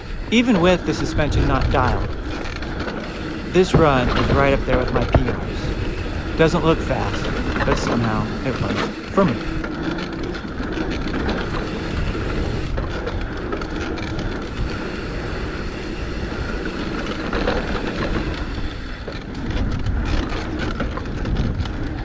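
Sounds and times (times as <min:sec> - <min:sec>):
bike clattering and rattling: 0:00.0 - 0:22.0
tyres and rushing air roar: 0:00.0 - 0:22.0.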